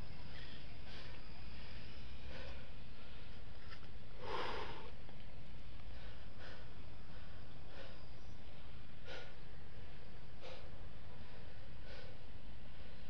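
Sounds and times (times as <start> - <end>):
steady low rumble: 0.0 - 13.0
person breathing hard: 0.2 - 13.0.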